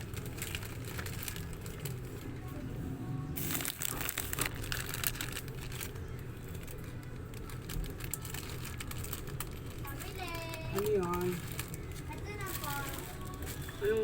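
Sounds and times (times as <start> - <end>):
plastic packaging crinkling: 0.0 - 2.3, 3.4 - 14.0.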